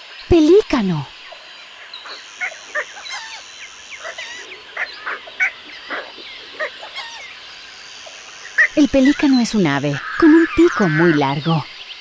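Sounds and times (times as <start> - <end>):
waterbirds honking: 1.7 - 11.7.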